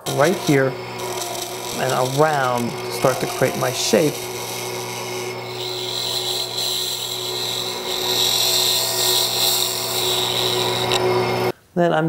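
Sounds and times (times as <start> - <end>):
turning tool scraping wood: 0.0 - 11.5
wood lathe humming: 0.0 - 11.5.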